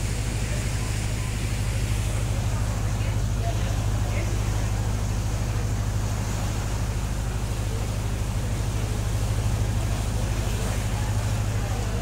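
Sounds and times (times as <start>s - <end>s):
ferry engine droning: 0.0s - 12.0s
water rushing along hull: 0.0s - 12.0s
wind: 0.0s - 12.0s.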